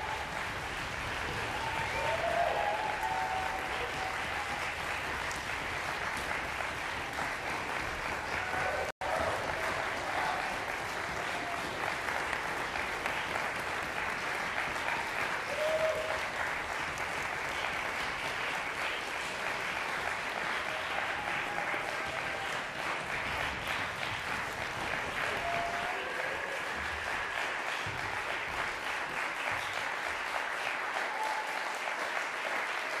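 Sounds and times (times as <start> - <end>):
audience applauding: 0.0 - 33.0.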